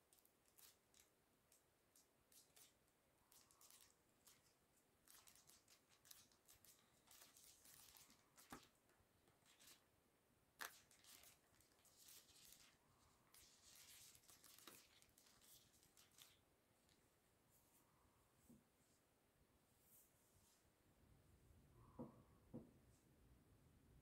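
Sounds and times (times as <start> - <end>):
faint rustling and crinkling: 0.0 - 9.9, 10.6 - 20.8.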